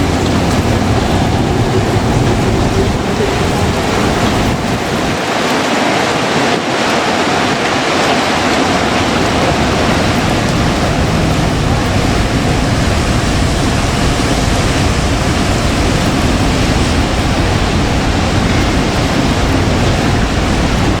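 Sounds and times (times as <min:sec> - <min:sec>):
gusts buffeting microphone: 0:00.0 - 0:21.0
heavy rain: 0:00.0 - 0:21.0
storm wind: 0:00.0 - 0:21.0.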